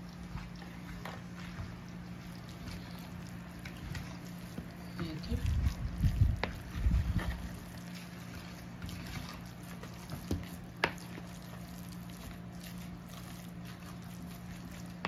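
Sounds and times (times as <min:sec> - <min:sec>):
spoon squelching in meat mixture: 0:00.0 - 0:15.0.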